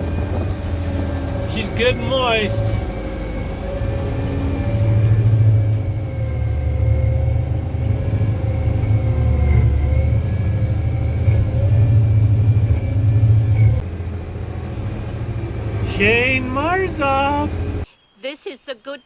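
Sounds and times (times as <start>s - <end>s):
diesel engine rumbling: 0.0s - 17.9s.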